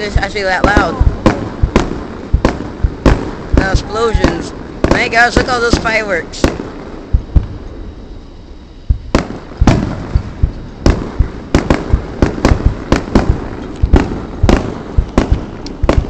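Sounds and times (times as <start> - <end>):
fireworks shells bursting: 0.0 - 7.8, 8.9 - 16.0.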